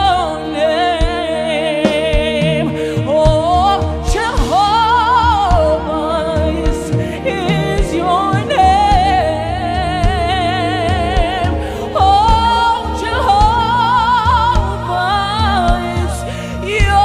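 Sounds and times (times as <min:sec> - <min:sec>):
band chords: 0:00.0 - 0:17.0
person singing with vibrato: 0:00.0 - 0:17.0
steady low drum beat: 0:01.0 - 0:17.0.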